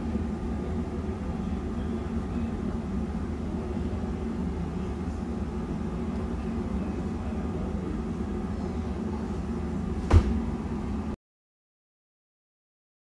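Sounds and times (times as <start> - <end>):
low machine hum: 0.0 - 11.2.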